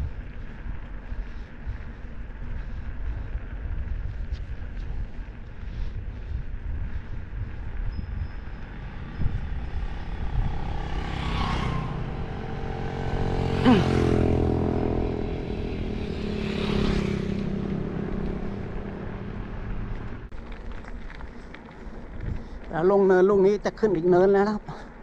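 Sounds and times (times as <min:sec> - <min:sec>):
motorcycles passing: 0:00.0 - 0:20.3
wind rushing over microphone: 0:00.0 - 0:20.3.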